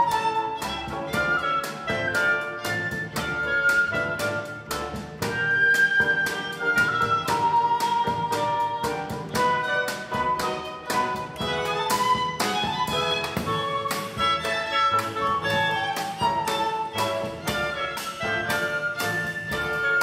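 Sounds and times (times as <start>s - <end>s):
tango ensemble playing: 0.0s - 20.0s.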